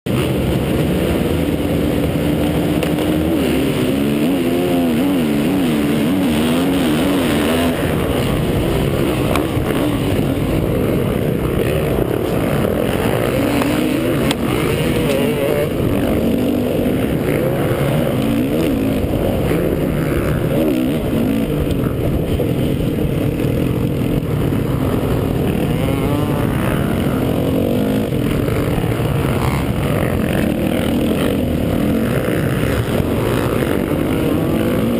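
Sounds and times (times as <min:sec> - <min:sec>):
motocross bike engine revving: 0:00.1 - 0:34.9.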